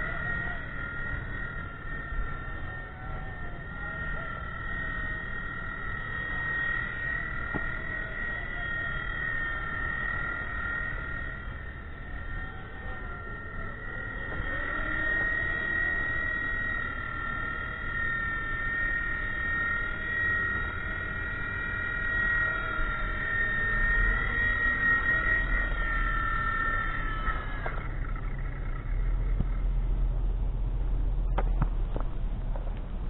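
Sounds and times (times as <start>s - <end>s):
toy helicopter motor whine: 0.0s - 32.4s.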